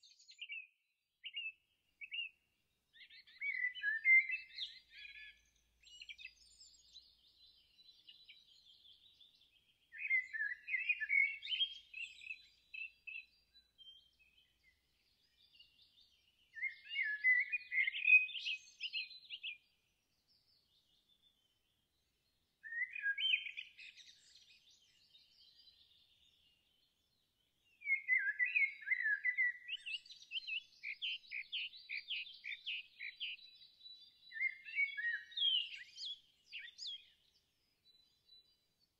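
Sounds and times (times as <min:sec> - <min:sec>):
songbird warbling chirps: 0:00.0 - 0:38.9.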